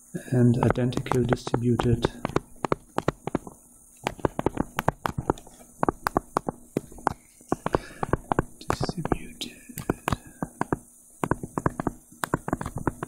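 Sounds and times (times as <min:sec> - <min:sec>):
stylus tapping on touchscreen: 0:00.6 - 0:13.0.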